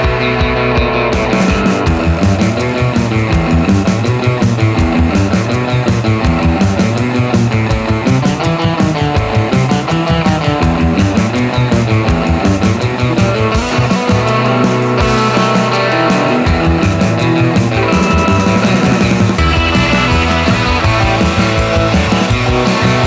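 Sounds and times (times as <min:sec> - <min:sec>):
rock music: 0:00.0 - 0:23.0.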